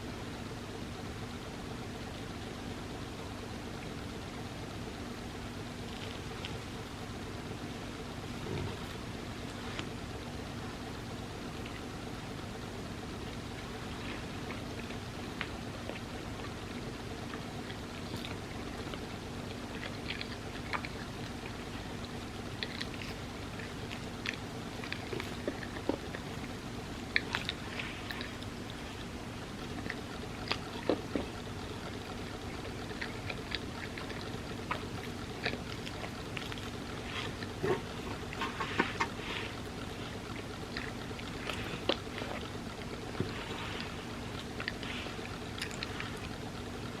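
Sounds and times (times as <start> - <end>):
steady hiss and faint hum: 0.0 - 47.0
person chewing soft food: 5.0 - 47.0.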